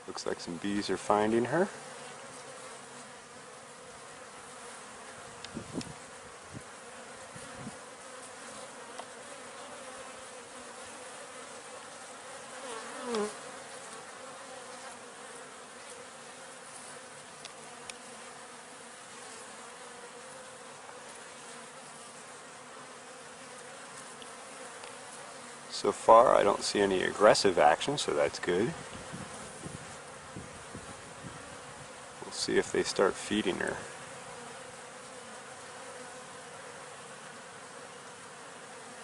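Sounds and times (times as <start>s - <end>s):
honeybees buzzing: 0.0s - 39.0s
bee buzzing past close: 1.1s - 39.0s.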